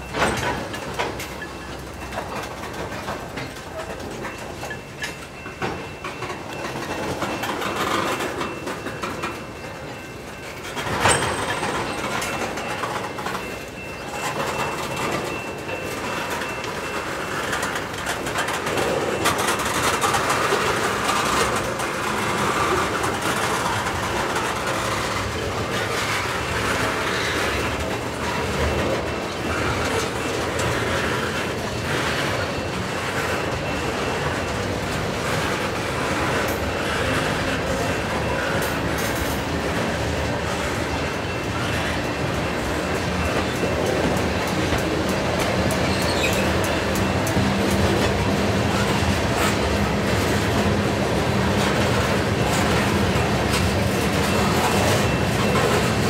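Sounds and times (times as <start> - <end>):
train rumble: 0.0 - 56.0
wheels clicking over rail joints: 0.0 - 56.0.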